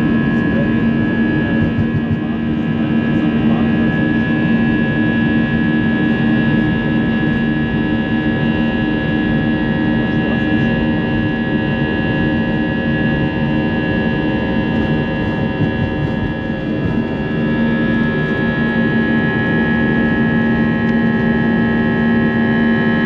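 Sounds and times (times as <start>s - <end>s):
jet engines heard inside cabin: 0.0s - 23.0s.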